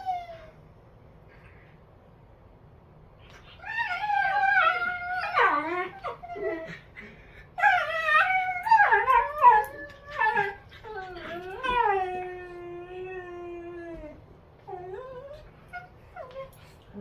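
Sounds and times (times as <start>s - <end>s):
dogs whining and yowling: 0.0s - 0.7s, 3.3s - 16.8s.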